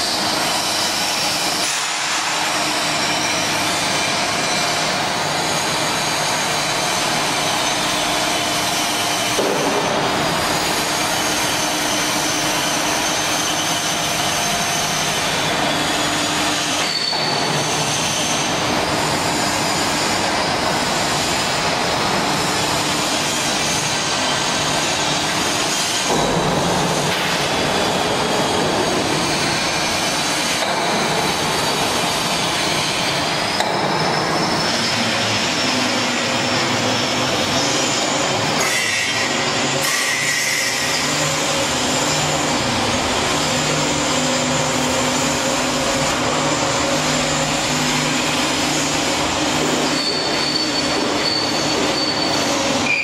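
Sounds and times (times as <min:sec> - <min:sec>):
mixer machine whining: 0:00.0 - 0:53.0.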